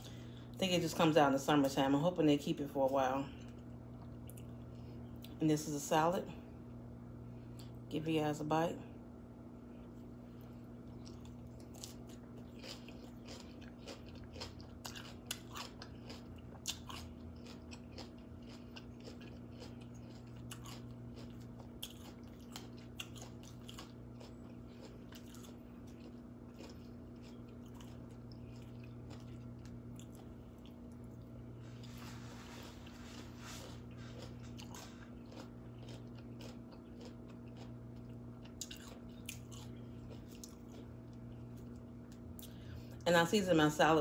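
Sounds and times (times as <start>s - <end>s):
crunching and chewing salad: 0.0s - 5.6s, 9.6s - 44.0s
faint low hum: 0.0s - 44.0s.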